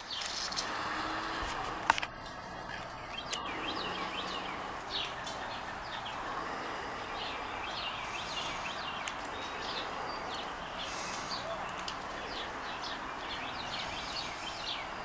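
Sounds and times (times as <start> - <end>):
small birds chirping: 0.0 - 15.0
steady background noise: 0.0 - 15.0.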